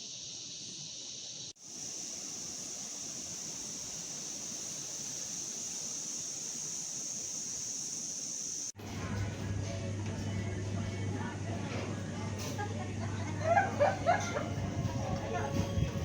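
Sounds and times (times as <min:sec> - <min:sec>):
forest insects droning: 0:00.0 - 0:08.8, 0:09.6 - 0:16.0.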